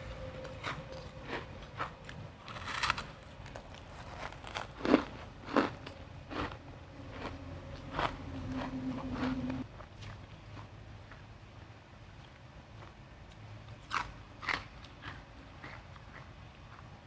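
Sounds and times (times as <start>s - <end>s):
ice being chewed: 0.4s - 11.3s, 12.2s - 16.9s.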